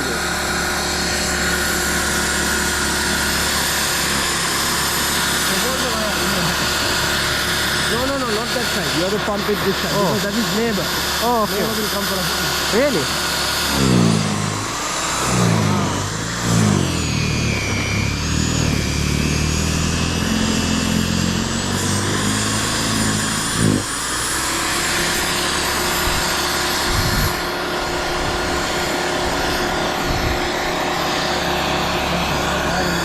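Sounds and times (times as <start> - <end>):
electric snow blower running: 0.0 - 33.0.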